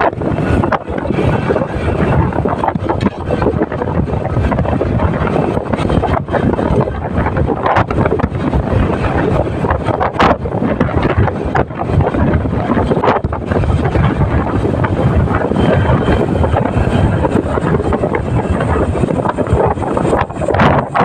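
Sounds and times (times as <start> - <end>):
motorcycle road and engine noise: 0.0 - 21.0
wind buffeting microphone: 0.0 - 21.0.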